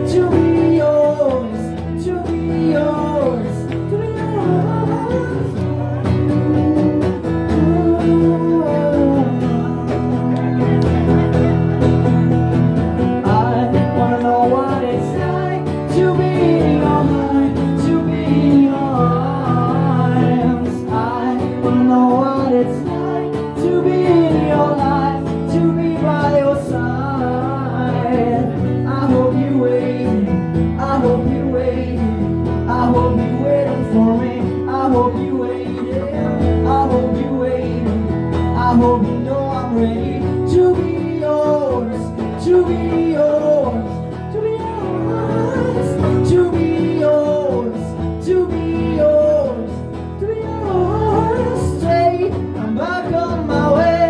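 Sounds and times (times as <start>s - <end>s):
person singing: 0.0s - 12.3s, 13.0s - 54.0s
acoustic guitar strumming: 0.0s - 54.0s.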